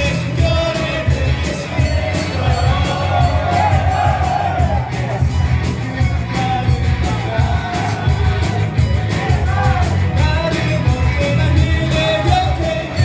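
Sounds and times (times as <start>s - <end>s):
lead singer singing: 0.0s - 5.2s, 6.2s - 13.0s
rock band playing: 0.0s - 13.0s.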